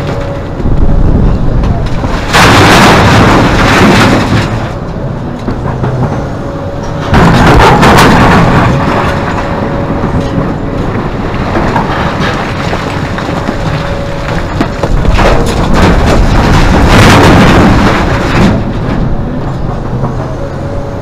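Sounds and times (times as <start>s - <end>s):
excavator bucket dumping load: 0.0s - 21.0s
heavy crashing rumbles: 0.0s - 21.0s
machine engine hum: 0.0s - 21.0s.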